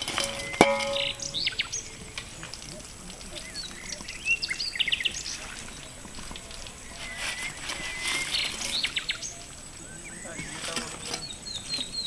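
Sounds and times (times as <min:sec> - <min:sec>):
steady background hiss: 0:00.0 - 0:12.0
small birds chirping: 0:00.2 - 0:12.0.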